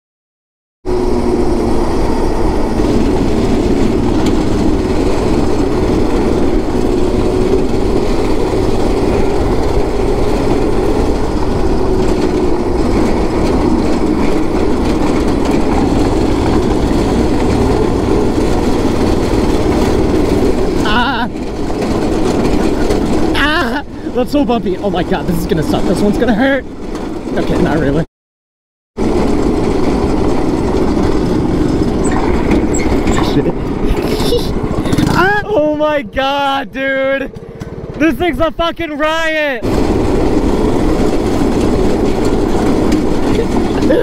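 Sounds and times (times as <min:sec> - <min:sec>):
go-kart engine running: 0:00.9 - 0:28.0, 0:29.0 - 0:44.0
chassis rattle: 0:00.9 - 0:28.1, 0:29.0 - 0:44.0.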